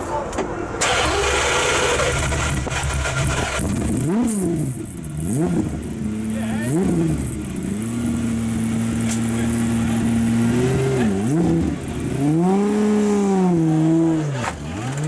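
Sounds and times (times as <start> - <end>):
sports car engine revving: 1.0 - 15.0.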